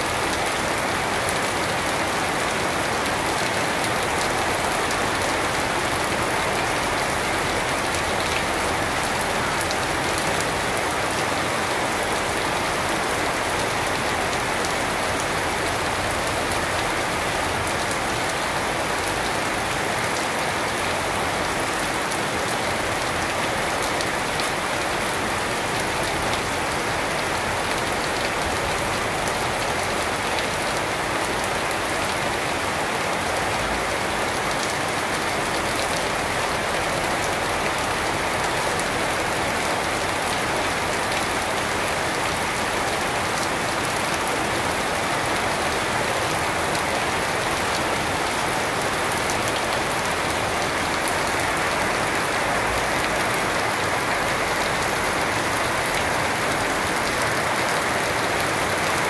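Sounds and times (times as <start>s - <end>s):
rain falling on foliage and paving: 0.0s - 59.0s.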